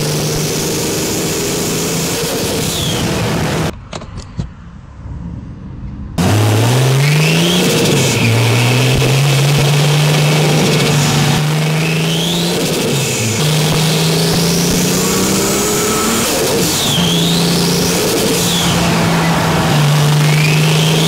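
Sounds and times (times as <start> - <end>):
car engine revving: 0.0 - 3.7, 5.0 - 21.0
turbo whine: 0.0 - 3.7, 6.1 - 21.0.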